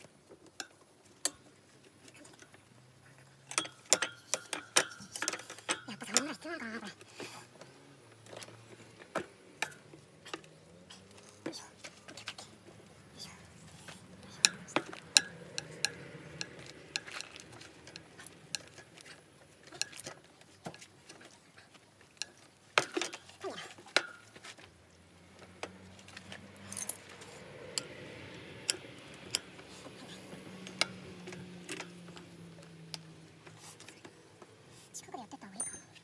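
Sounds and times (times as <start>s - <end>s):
hand tools and metal parts clinking: 0.3s - 36.0s.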